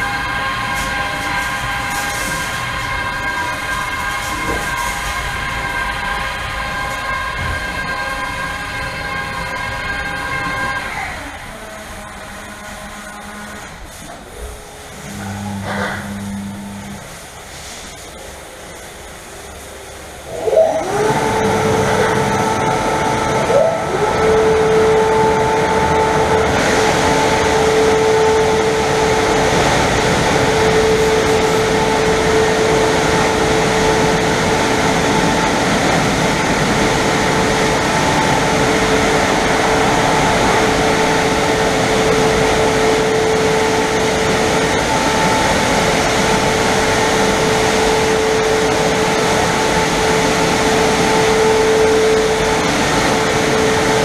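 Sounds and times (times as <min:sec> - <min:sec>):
air-dryer blowers rushing: 0:00.0 - 0:54.0
constant whine: 0:00.0 - 0:54.0.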